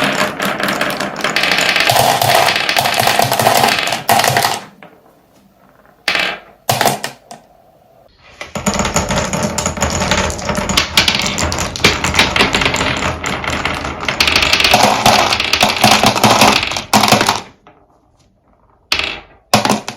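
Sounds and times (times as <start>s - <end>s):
marbles clattering through wooden blocks: 0.0s - 7.5s, 8.4s - 19.9s.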